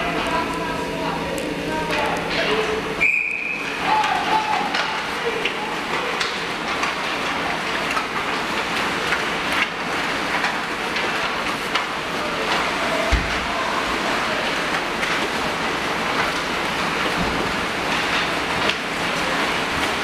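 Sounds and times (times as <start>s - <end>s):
hockey sticks and pucks clacking: 3.4s - 19.9s.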